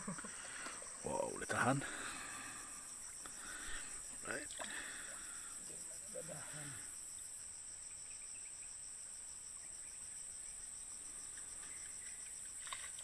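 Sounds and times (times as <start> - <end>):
pulsing insect chorus: 0.0 - 13.0.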